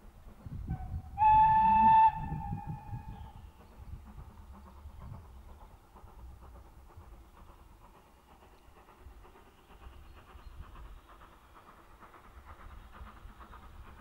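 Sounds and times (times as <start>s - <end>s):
low rumble of wind: 0.0s - 14.0s
steam locomotive chuffing: 0.0s - 14.0s.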